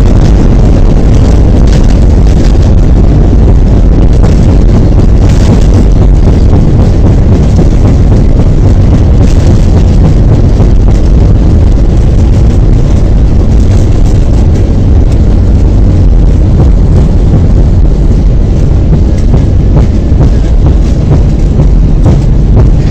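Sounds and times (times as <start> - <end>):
airliner engines rumbling: 0.0 - 22.9
rushing air: 0.0 - 22.9.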